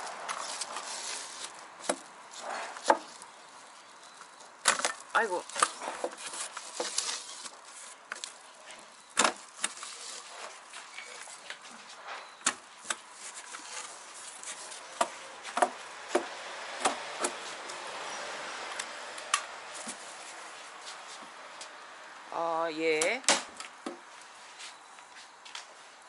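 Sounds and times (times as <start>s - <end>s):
handling noises: 0.0s - 17.9s, 18.7s - 21.8s.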